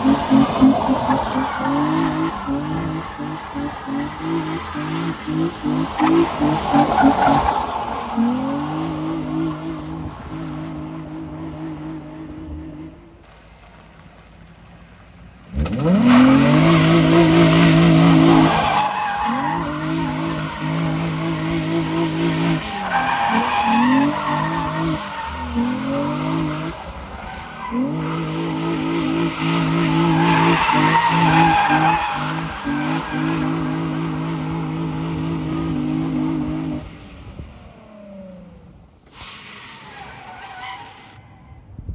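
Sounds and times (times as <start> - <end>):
tyres squealing and skidding: 0.0 - 12.9, 15.5 - 41.7
car engine at high revs: 0.0 - 13.8, 15.4 - 39.5.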